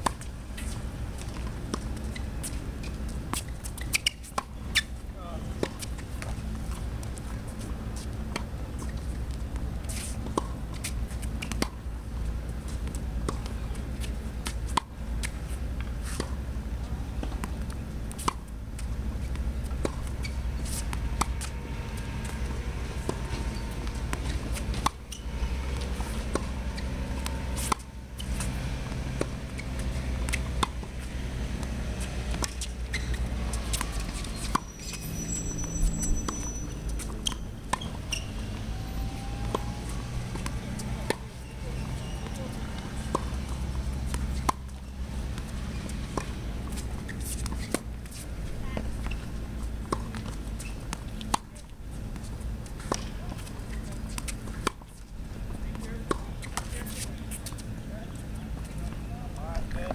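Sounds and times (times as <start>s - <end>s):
tennis ball hit and bouncing: 0.0s - 35.2s, 36.0s - 38.7s, 39.4s - 59.0s
low background rumble: 0.0s - 56.4s.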